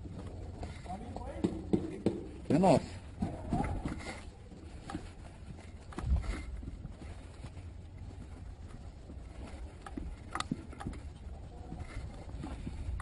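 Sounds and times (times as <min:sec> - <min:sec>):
footsteps on hard ground: 0:00.0 - 0:13.0.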